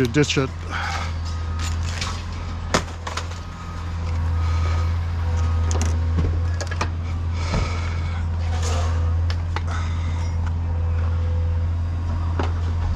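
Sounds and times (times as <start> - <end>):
vehicle engine rumble: 0.0 - 12.9.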